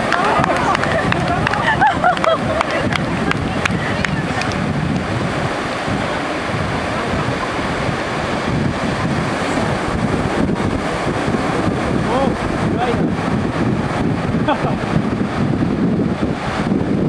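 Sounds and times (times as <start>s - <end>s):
ocean surf breaking: 0.0s - 17.0s
wind gusting on microphone: 0.0s - 17.0s.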